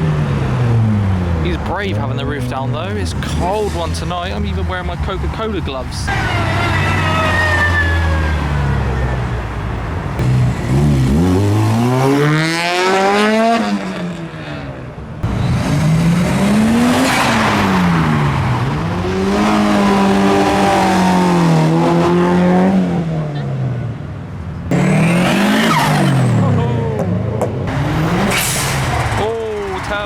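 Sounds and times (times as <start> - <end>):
car engine revving: 0.0 - 24.0, 24.7 - 30.0.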